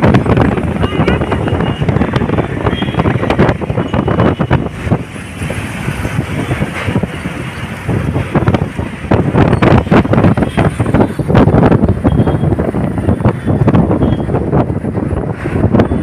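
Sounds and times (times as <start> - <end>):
gusty wind buffeting microphone: 0.0 - 16.0
road traffic rumble: 0.0 - 16.0.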